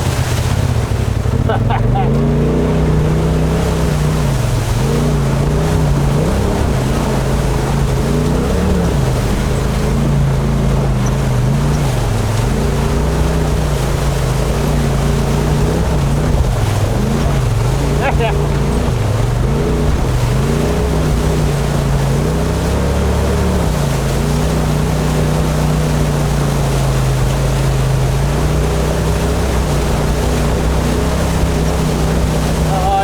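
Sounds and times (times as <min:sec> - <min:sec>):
engine revving: 0:00.0 - 0:33.0
steady rushing noise: 0:00.0 - 0:33.0.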